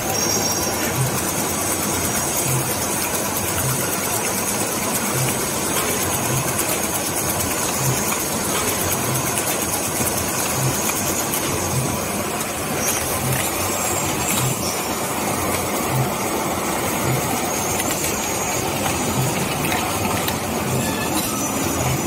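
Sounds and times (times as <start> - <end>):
mechanical rumble: 0.0 - 22.0.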